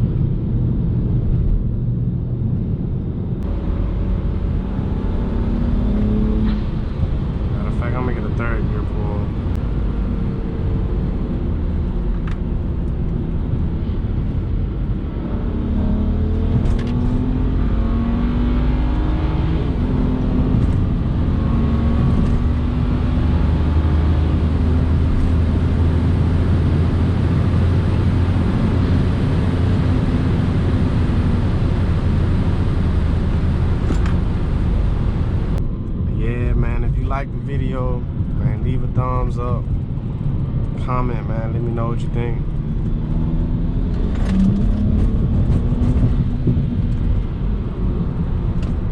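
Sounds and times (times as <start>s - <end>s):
car engine accelerating hard: 3.4s - 48.9s.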